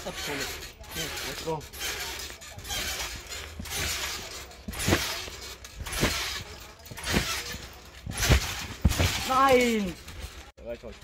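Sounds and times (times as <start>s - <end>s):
trampoline mat thudding: 0.2s - 10.5s.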